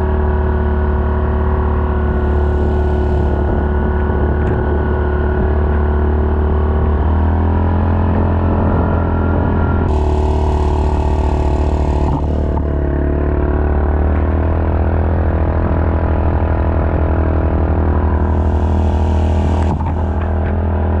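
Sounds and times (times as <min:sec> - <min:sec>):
engine running with pulsing hum: 0:00.0 - 0:21.0.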